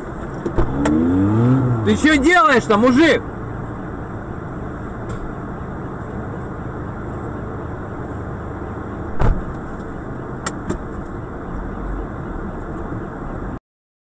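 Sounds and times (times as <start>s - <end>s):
car cabin hum: 0.0s - 13.2s.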